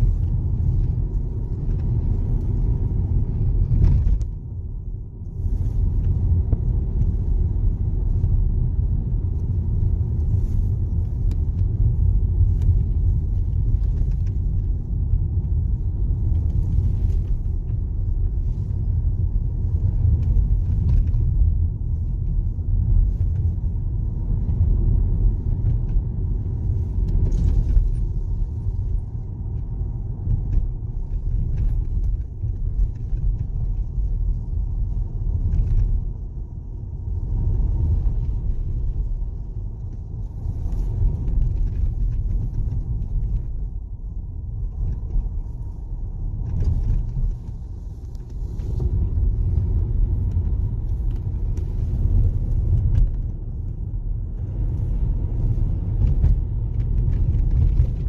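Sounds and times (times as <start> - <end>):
car engine and tyres rumbling: 0.0 - 58.0
faint clicks and rattles: 9.3 - 58.0.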